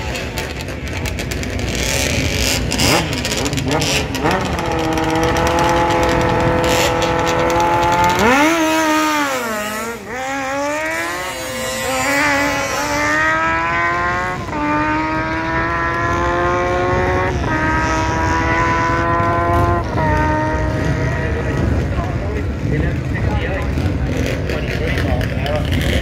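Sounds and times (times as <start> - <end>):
motorcycle engine revving and accelerating: 0.0 - 26.0.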